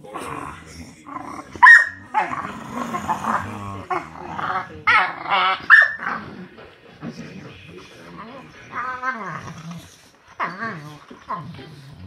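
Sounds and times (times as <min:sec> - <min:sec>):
dogs growling: 0:00.0 - 0:12.0.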